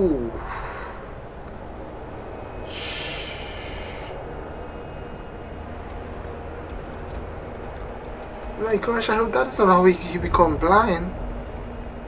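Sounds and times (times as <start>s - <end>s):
low soundtrack rumble: 0.0s - 12.0s.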